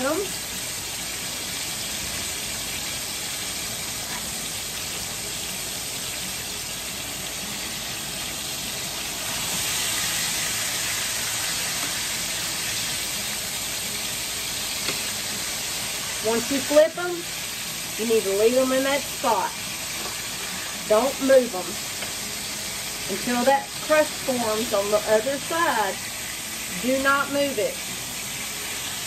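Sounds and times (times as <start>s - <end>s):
steaks sizzling in grease: 0.0s - 29.0s.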